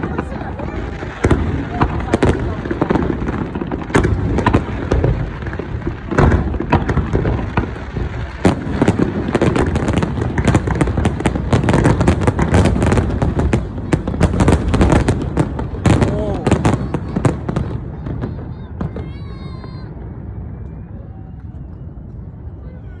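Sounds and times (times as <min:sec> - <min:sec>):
fireworks crackling: 0:00.0 - 0:21.2
fireworks bangs: 0:00.0 - 0:22.6.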